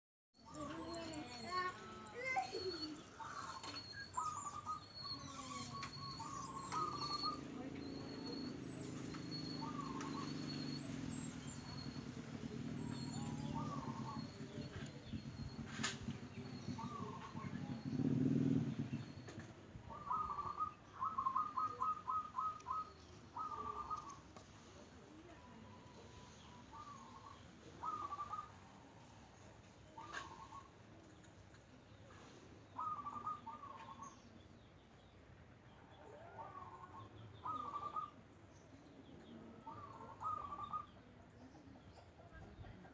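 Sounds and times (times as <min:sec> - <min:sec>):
doves cooing: 0:00.4 - 0:31.3, 0:32.1 - 0:34.3, 0:35.9 - 0:38.4, 0:39.0 - 0:42.9.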